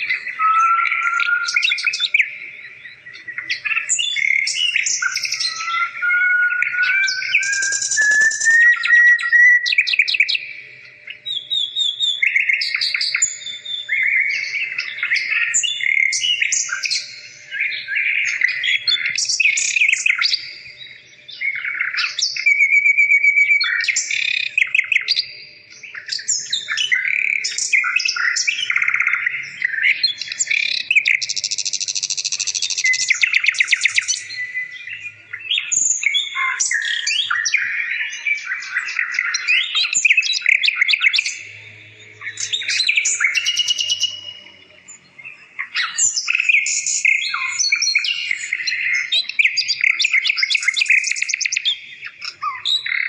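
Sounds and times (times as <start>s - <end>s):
songbird singing trills and whistles: 0.0s - 53.0s.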